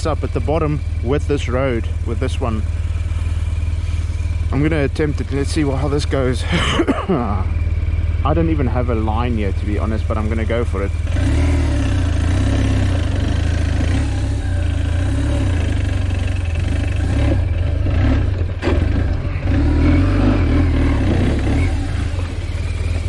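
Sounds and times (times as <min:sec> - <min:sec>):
motorcycle engine under load: 0:00.0 - 0:23.0.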